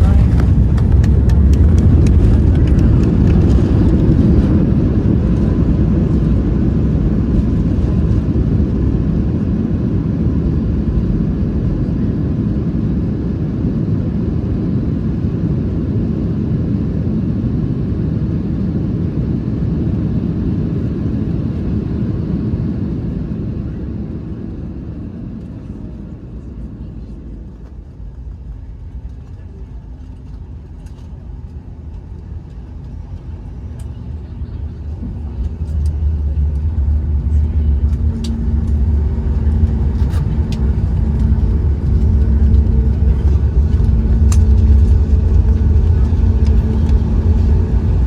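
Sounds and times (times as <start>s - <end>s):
aircraft cabin engine roar: 0.0s - 48.0s.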